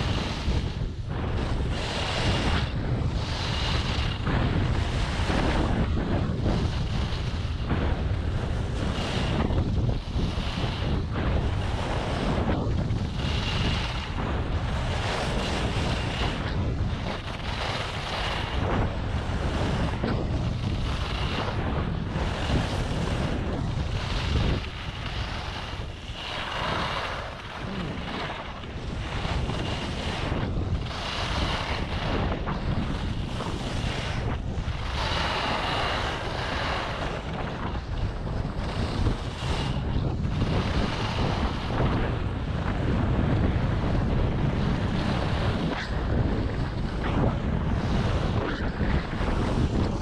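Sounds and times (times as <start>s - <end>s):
skis scraping on snow: 0.0s - 50.0s
wind buffeting microphone: 0.0s - 50.0s.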